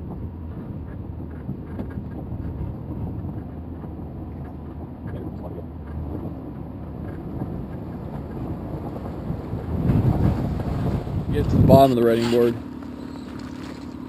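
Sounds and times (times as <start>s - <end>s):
engine low rumble: 0.0s - 14.0s
water around vehicle: 0.0s - 14.0s
wind buffeting microphone: 0.0s - 14.0s.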